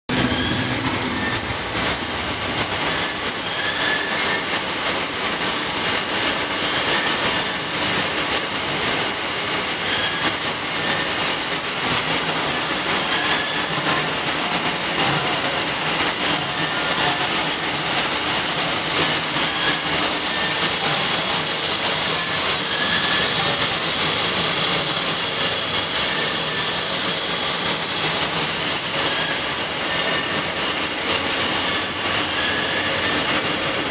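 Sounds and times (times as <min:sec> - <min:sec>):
lathe cutting metal squealing: 0:00.1 - 0:33.9.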